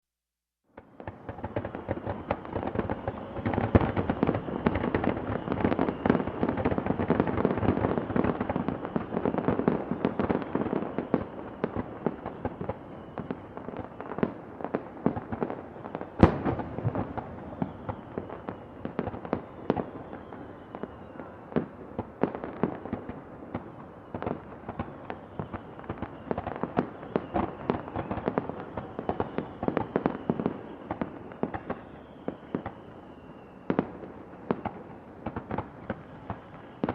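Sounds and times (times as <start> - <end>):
distant fireworks bursts: 0.7 - 36.9.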